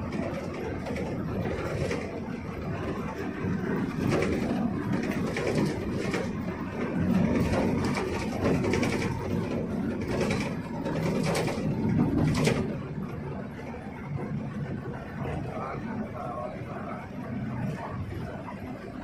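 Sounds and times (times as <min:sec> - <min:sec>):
bus engine and tyre rumble: 0:00.0 - 0:19.0.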